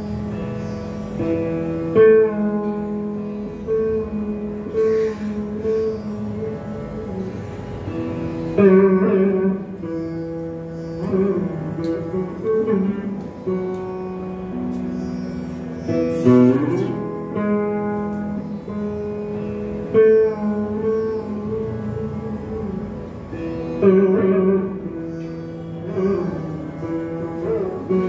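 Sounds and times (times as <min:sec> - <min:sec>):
veena playing slow phrases: 0:00.0 - 0:28.0.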